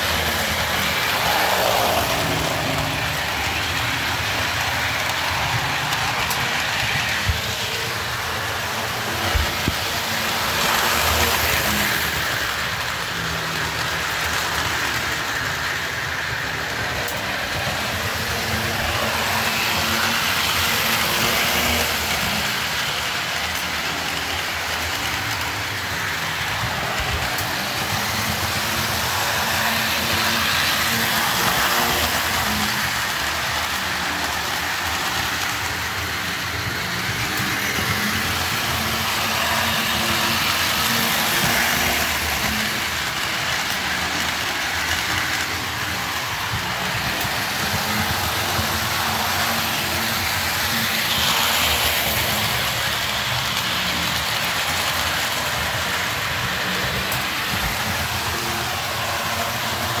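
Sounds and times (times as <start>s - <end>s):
model train running on track: 0.0s - 60.0s.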